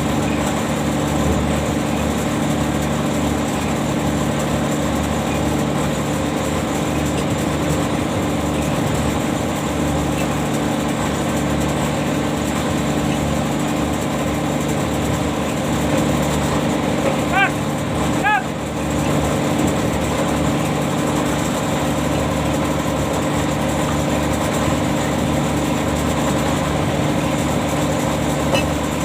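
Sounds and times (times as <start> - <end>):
ship machinery engine throbbing: 0.0 - 29.0.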